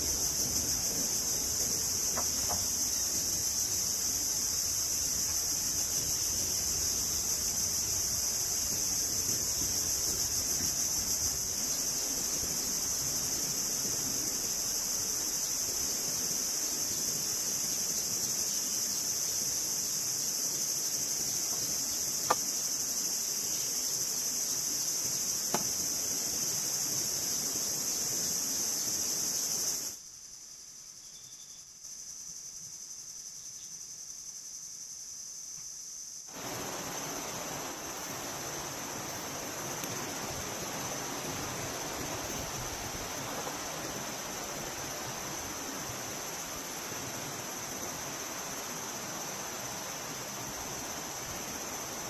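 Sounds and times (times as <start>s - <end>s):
insects chirring: 0.0s - 52.0s
low even hiss: 0.0s - 52.0s.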